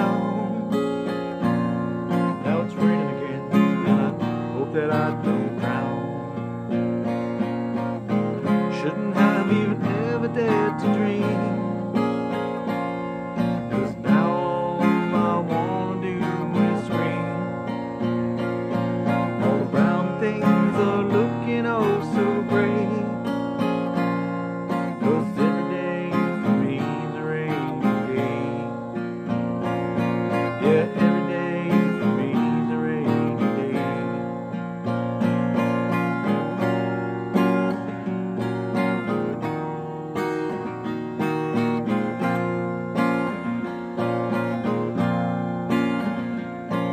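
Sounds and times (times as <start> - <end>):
acoustic guitar strumming chords: 0.0 - 46.9.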